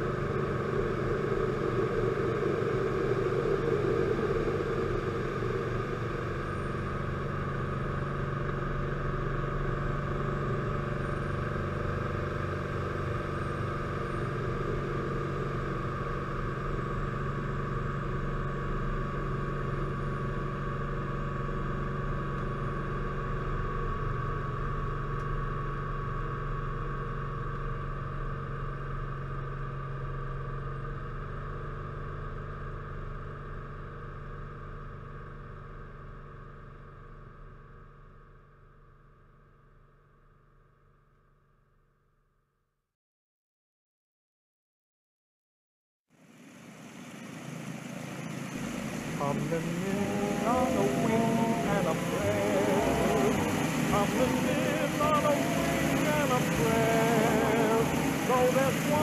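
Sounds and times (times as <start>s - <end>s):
propeller plane engine droning: 0.0s - 40.2s, 46.2s - 59.0s.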